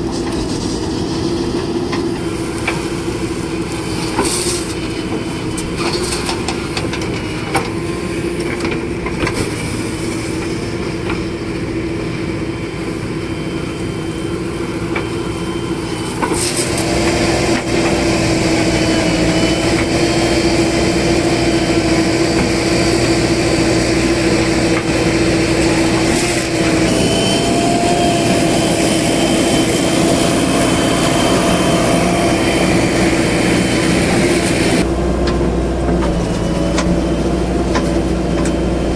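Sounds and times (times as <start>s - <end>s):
constant humming tone: 0.0s - 38.9s
heavy vehicle engines running: 0.0s - 38.9s.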